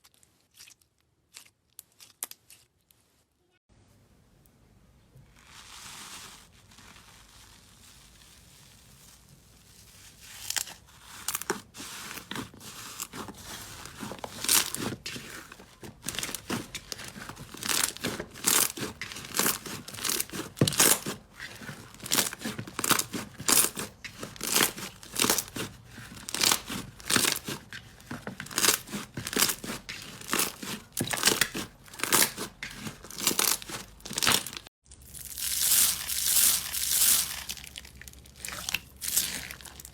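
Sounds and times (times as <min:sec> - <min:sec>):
slime crackling: 0:05.4 - 0:39.9.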